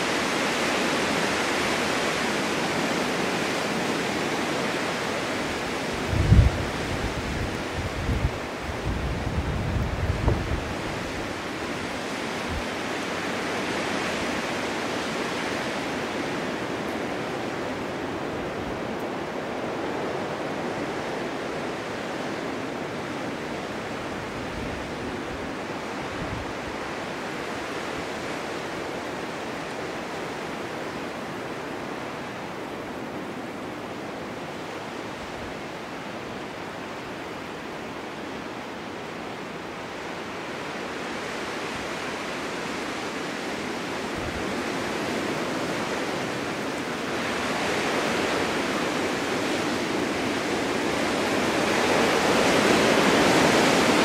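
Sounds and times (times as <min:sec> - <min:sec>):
wind rushing through forest: 0:00.0 - 0:54.0.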